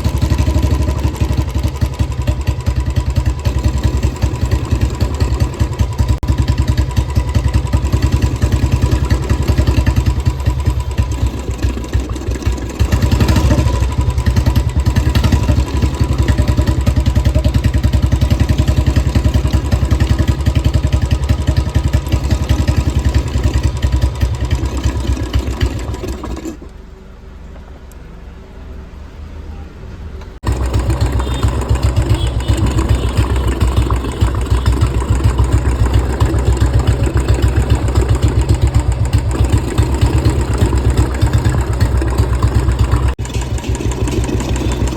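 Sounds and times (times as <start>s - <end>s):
motorcycle engine thumping: 0.0s - 26.8s, 30.0s - 44.9s.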